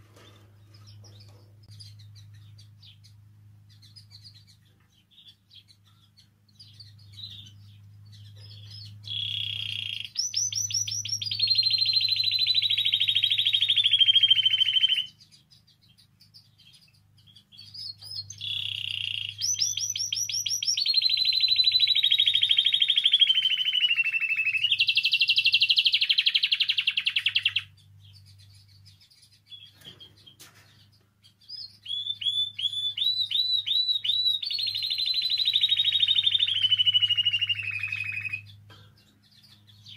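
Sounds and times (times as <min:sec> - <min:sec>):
canary singing rolling trills: 0:00.0 - 0:39.9
faint low hum: 0:00.0 - 0:39.9.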